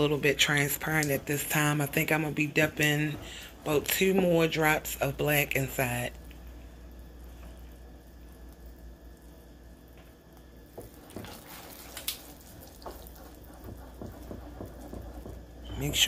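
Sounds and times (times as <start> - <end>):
liquid swishing in a saucepan: 0.0 - 16.0.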